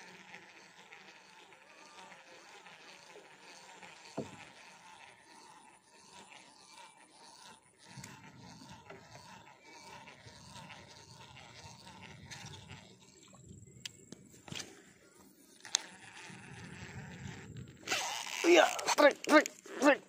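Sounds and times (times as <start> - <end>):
fishing reel whirring: 0.0 - 20.0
reel click: 0.2 - 13.2, 15.6 - 19.7.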